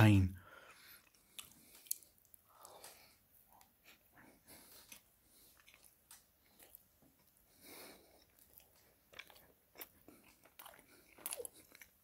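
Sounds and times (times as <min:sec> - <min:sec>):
faint chewing: 0:00.5 - 0:12.0.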